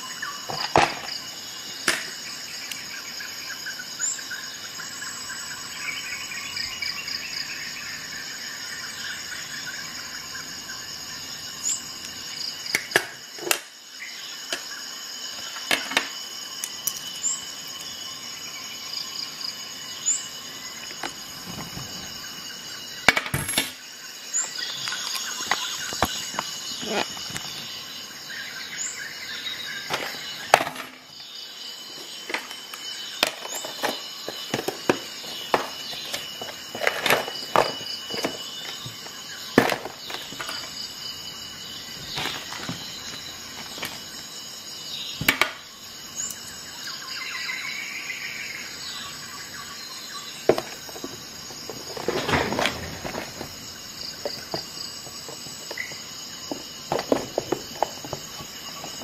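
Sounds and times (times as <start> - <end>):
high insect chirring: 0.0 - 59.0.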